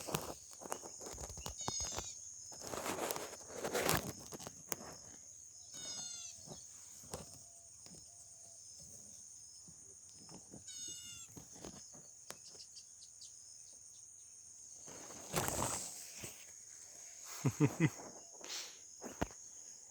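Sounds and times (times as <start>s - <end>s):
high insect buzz: 0.0s - 19.9s.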